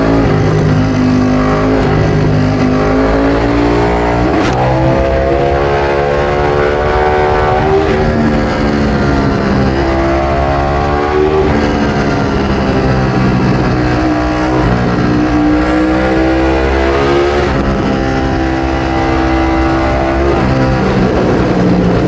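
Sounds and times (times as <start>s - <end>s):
motorcycle engine accelerating hard: 0.0s - 22.0s.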